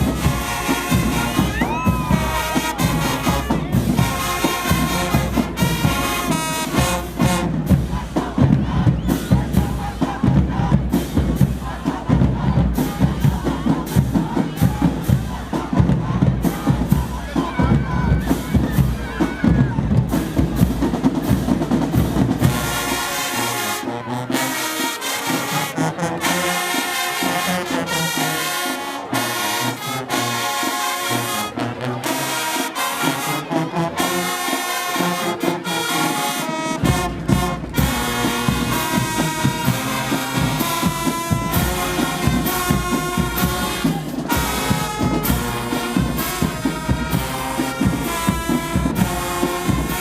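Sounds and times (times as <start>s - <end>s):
brass horns playing tune: 0.0s - 17.5s, 22.4s - 50.0s
marching band playing: 0.0s - 50.0s.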